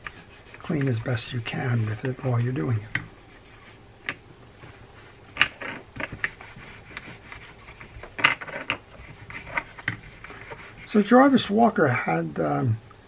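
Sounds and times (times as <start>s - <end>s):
cloth scrubbing reel case: 0.0s - 11.6s.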